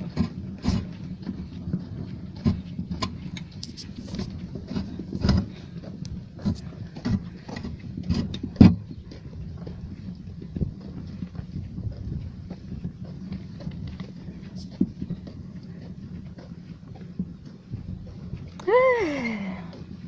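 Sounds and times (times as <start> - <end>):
cart knocking and clattering: 0.0 - 20.0
cart wheels rumbling on dirt: 0.0 - 20.0.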